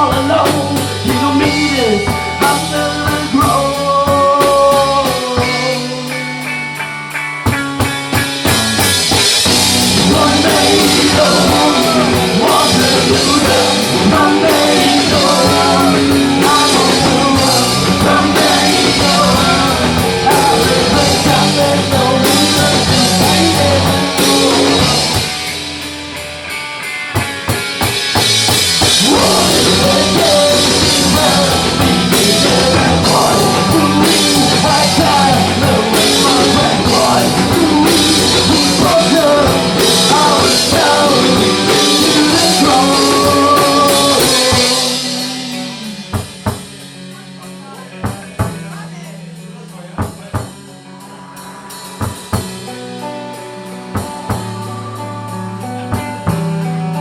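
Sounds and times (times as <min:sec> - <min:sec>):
bending lead melody: 0:00.0 - 0:57.0
rock band playing: 0:00.0 - 0:57.0.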